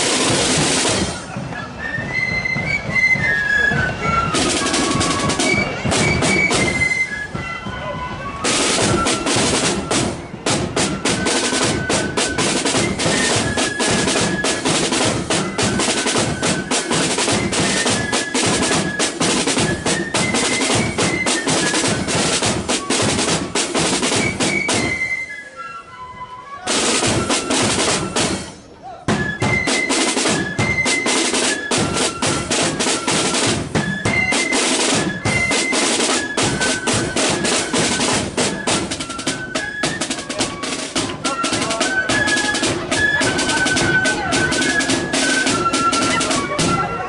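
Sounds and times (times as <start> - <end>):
snare drum roll: 0.0 - 7.4, 8.4 - 25.2, 26.7 - 47.0
flutes playing melody: 0.0 - 47.0.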